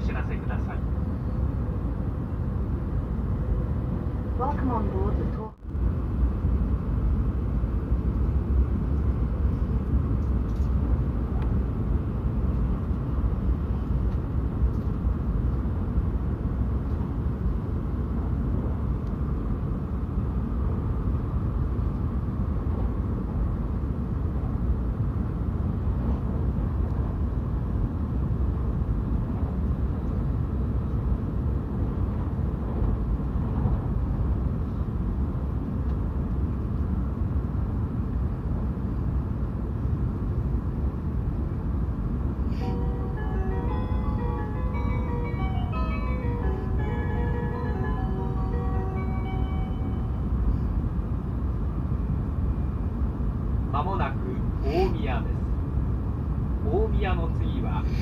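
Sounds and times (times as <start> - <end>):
train rumbling at speed: 0.0 - 58.0.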